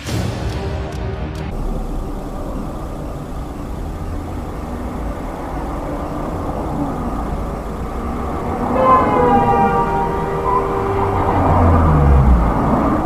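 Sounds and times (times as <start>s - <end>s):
traffic rumble: 1.0s - 13.0s
car engine running: 1.5s - 13.0s
loud pitched tone: 1.6s - 13.0s.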